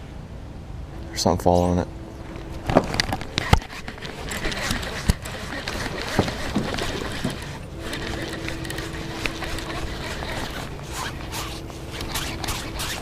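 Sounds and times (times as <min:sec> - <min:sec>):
electric trolling motor hum: 0:00.9 - 0:13.0.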